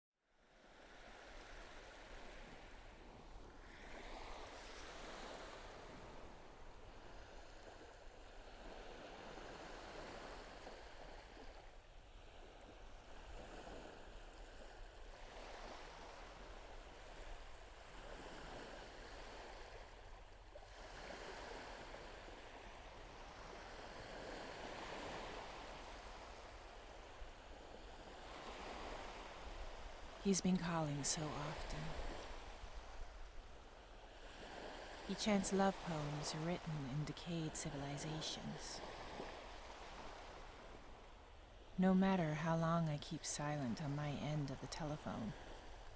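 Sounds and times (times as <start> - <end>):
ocean surf on beach: 0.5 - 45.9.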